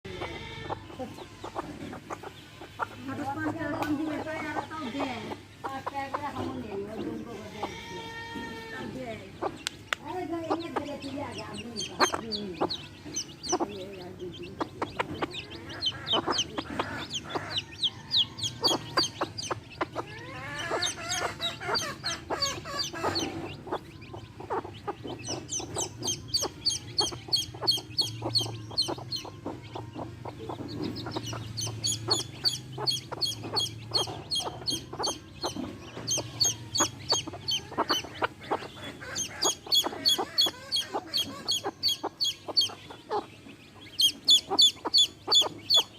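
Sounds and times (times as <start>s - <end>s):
baby chicks peeping: 0.0s - 45.9s
hen clucking: 0.0s - 45.9s.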